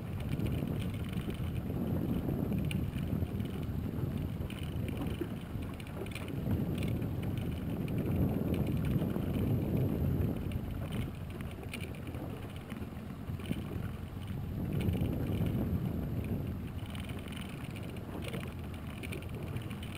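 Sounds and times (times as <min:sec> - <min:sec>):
outboard motor running: 0:00.0 - 0:19.9
wind on microphone: 0:00.0 - 0:19.9.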